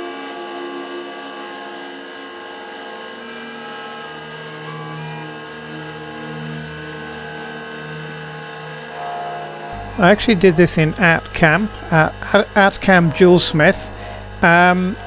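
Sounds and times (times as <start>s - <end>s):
mill cutter whining through metal: 0.0s - 15.0s.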